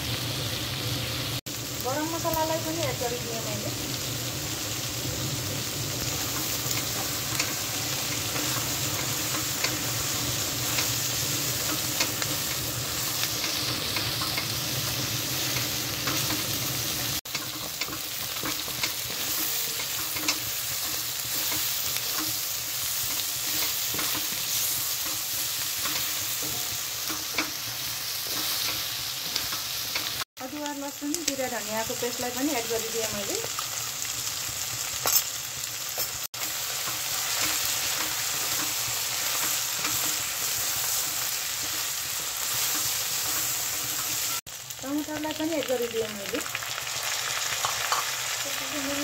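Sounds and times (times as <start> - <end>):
chicken sizzling in pan: 0.0 - 49.0.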